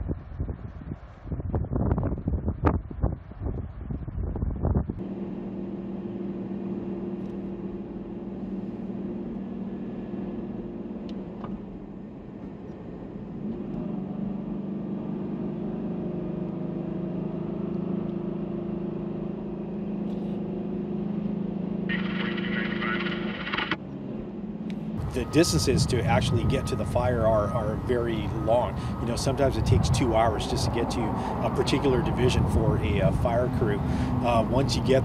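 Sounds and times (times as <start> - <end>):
car engine and road hum: 0.0 - 35.0.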